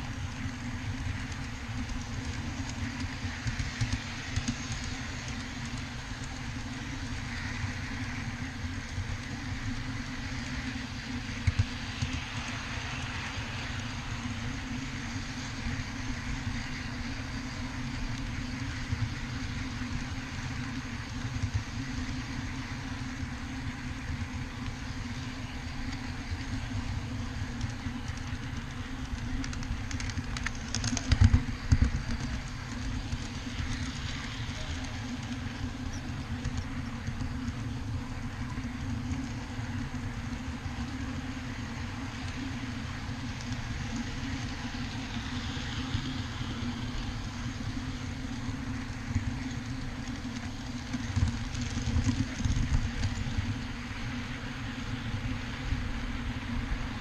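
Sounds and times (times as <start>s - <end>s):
train wheels rumbling on rail: 0.0s - 57.0s
wheels clattering over track: 0.0s - 57.0s.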